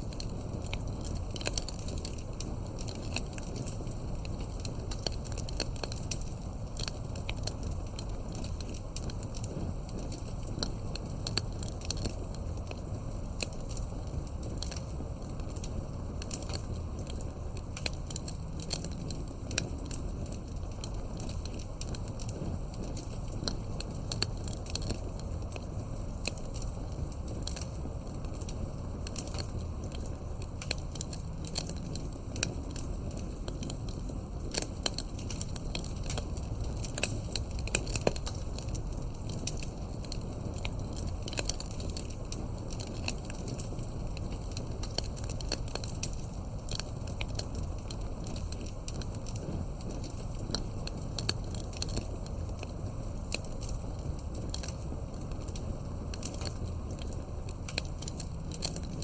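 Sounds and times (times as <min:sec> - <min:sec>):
campfire crackling: 0:00.0 - 0:59.0
low rush of flame: 0:00.0 - 0:59.0.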